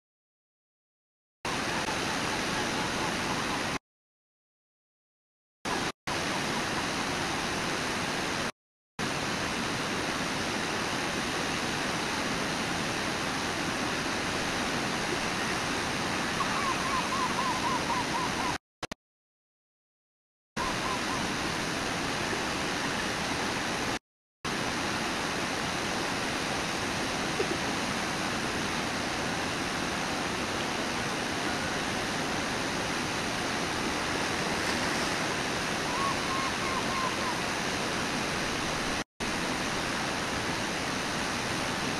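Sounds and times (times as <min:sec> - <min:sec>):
river water rushing at falls: 0:01.5 - 0:03.8, 0:05.7 - 0:18.6, 0:20.6 - 0:41.9.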